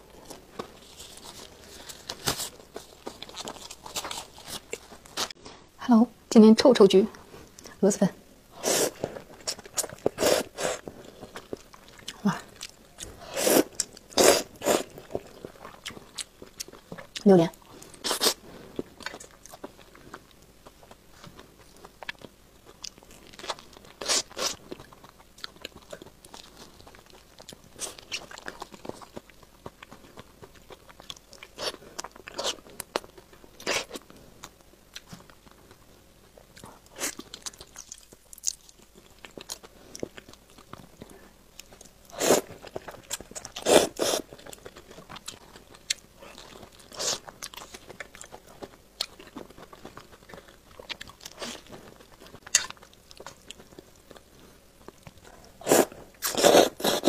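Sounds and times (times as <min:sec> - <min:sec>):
person chewing with wet smacks: 0:08.9 - 0:57.0.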